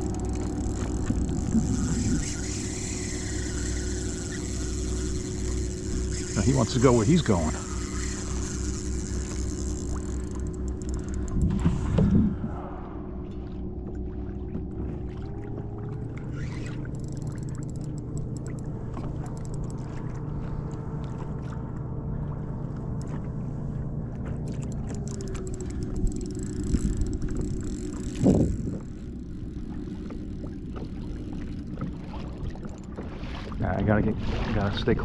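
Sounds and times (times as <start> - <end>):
steady motor hum: 0.0 - 35.0.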